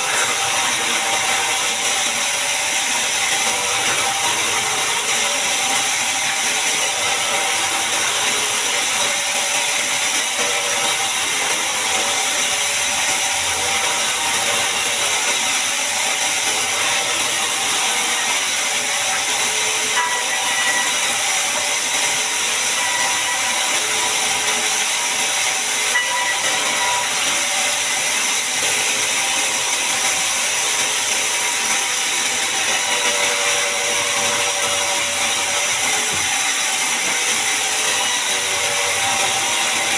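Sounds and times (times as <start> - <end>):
bandsaw cutting log: 0.0 - 39.9.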